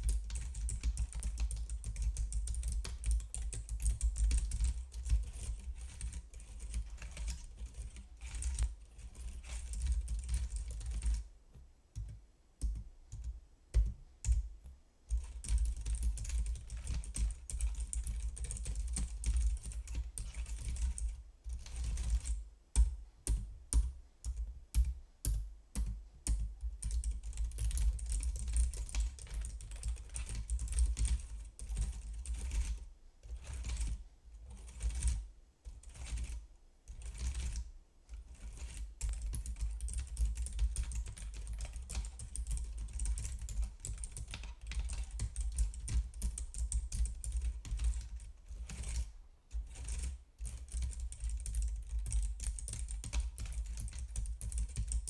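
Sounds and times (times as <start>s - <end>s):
typing on computer keyboard: 0.0s - 11.3s, 12.0s - 14.5s, 15.1s - 55.0s.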